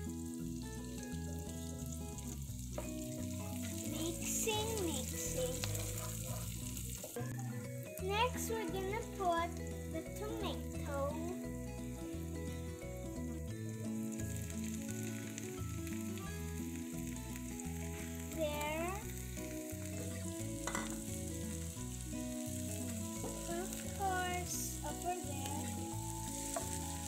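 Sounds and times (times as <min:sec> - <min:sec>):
background music with held notes: 0:00.0 - 0:27.0
vegetables sizzling in pan: 0:00.0 - 0:27.0.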